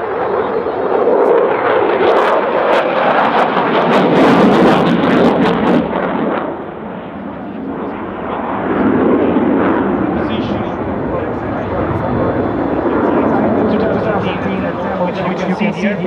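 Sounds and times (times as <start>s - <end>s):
jet engine crackling: 0.0s - 16.0s
jet engine roaring: 0.0s - 16.0s.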